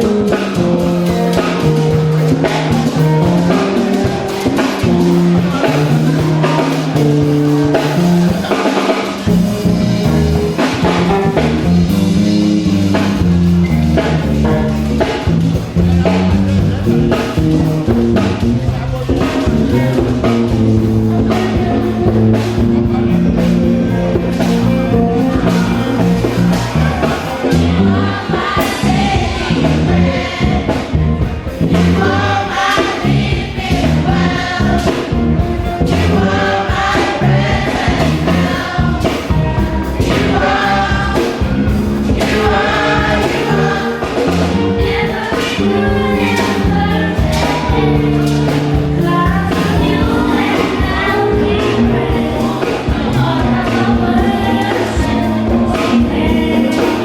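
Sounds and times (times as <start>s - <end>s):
bass guitar and drum kit: 0.0s - 57.0s
choir singing gospel: 0.0s - 57.0s.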